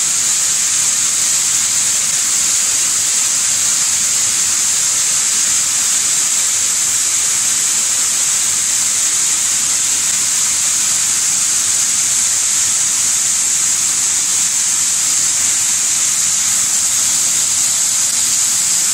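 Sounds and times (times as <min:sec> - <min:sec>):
grain cleaning machine hissing: 0:00.0 - 0:18.9.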